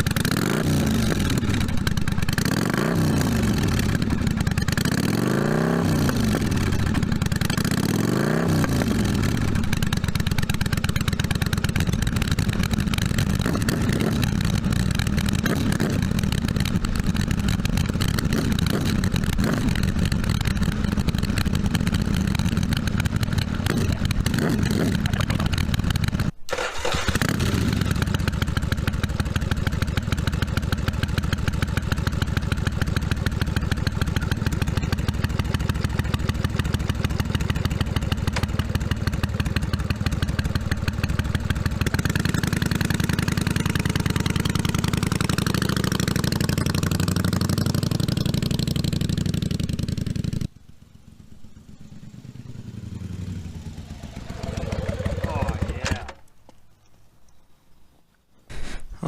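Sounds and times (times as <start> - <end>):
motorcycle engine running: 0.0 - 26.4, 27.2 - 56.2.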